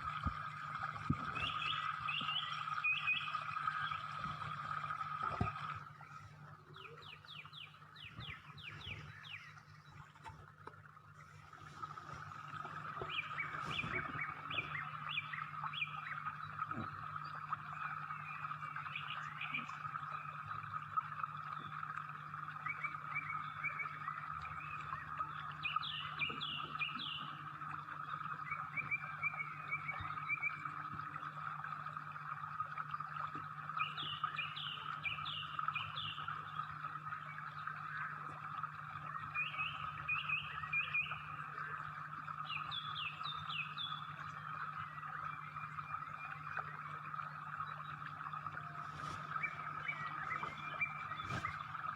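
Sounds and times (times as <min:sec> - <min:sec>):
birds chirping: 0:00.0 - 0:32.0, 0:32.9 - 0:51.9
low steady hum: 0:00.0 - 0:51.9.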